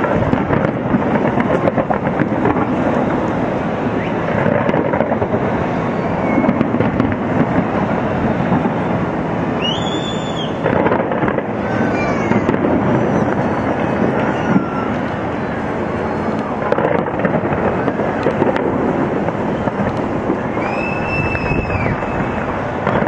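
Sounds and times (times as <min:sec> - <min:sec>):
firework whistle: 0:00.0 - 0:23.0
fireworks bangs and crackles: 0:00.0 - 0:23.0.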